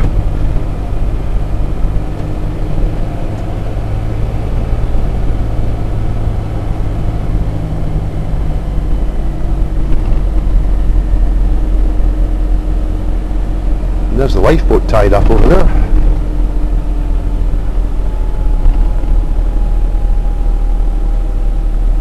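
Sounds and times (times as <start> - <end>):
road noise: 0.0 - 22.0
vehicle engine hum: 0.0 - 22.0.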